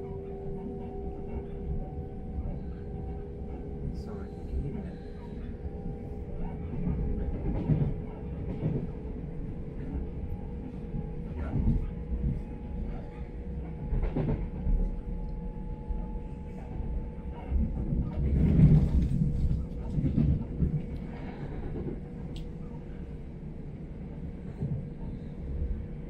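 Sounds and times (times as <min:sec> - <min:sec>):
train rumble inside coach: 0:00.0 - 0:26.0.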